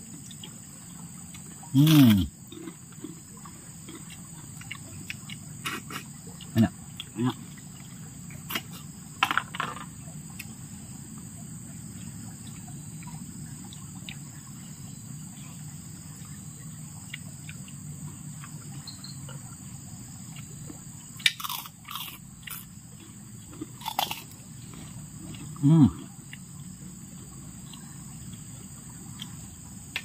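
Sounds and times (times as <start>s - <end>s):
quiet chewing: 0.0s - 8.9s, 11.9s - 14.6s, 17.0s - 30.0s
high insect drone: 0.0s - 30.0s.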